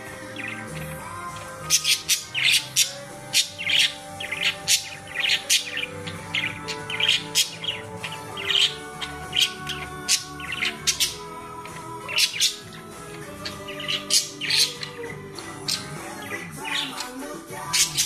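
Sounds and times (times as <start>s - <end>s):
small birds chirping: 0.0s - 18.0s
soft background music: 0.0s - 18.0s.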